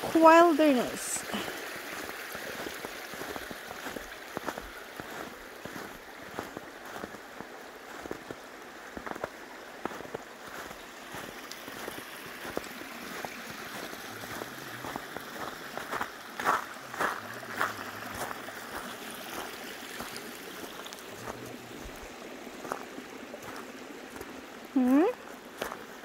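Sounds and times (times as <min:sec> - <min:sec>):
creek running and trickling: 0:00.0 - 0:26.0
light taps and drips: 0:01.4 - 0:26.0.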